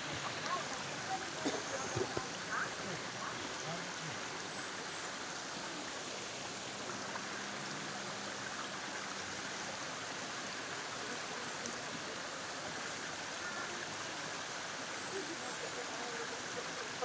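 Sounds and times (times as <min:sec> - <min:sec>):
stream water running over rocks: 0:00.0 - 0:17.0.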